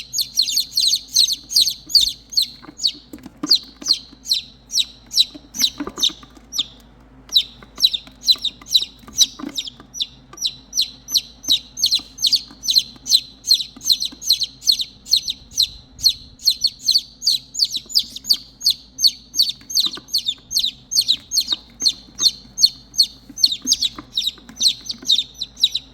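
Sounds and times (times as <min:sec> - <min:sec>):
baby chicks peeping: 0:00.0 - 0:25.9.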